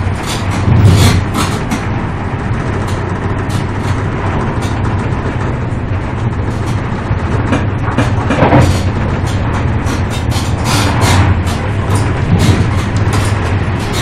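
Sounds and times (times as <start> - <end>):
rushing noise: 0.0 - 14.0
train cabin rumble and hum: 0.0 - 14.0.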